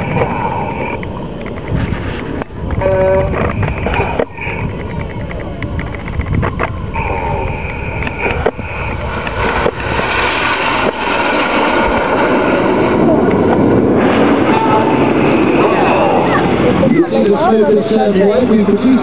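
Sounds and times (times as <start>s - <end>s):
jet aircraft passing overhead: 0.0s - 19.0s.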